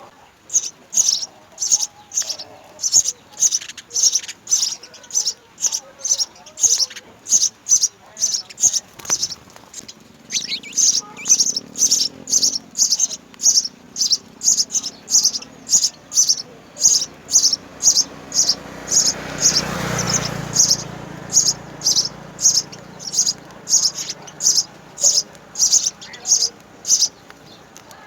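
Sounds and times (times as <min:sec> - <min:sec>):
sparrows chirping: 0:00.0 - 0:28.0.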